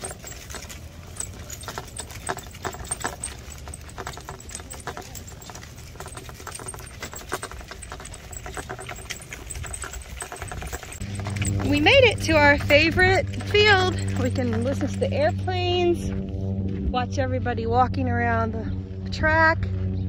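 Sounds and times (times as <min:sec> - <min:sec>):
stroller wheels crunching on gravel: 0:00.0 - 0:16.9
footsteps on gravel: 0:00.0 - 0:17.0
low rumble: 0:00.0 - 0:20.0.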